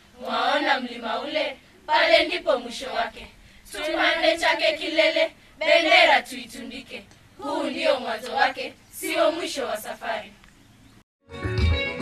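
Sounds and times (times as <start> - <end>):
girls' choir singing unaccompanied: 0.0 - 10.4.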